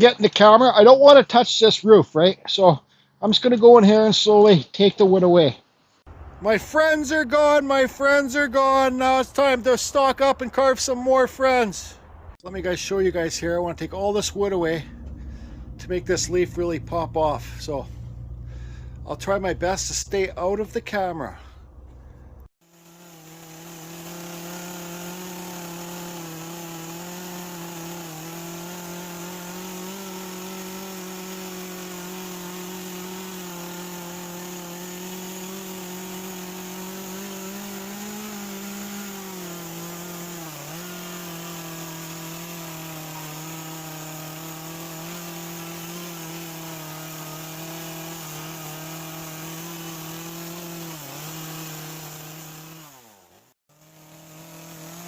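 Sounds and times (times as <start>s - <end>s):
chainsaw cutting wood: 6.0s - 55.0s.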